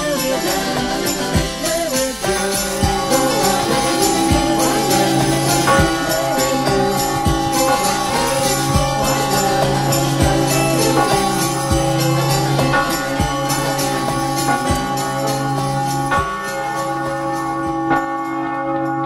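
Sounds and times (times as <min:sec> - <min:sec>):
tower bell ringing: 0:00.0 - 0:19.0.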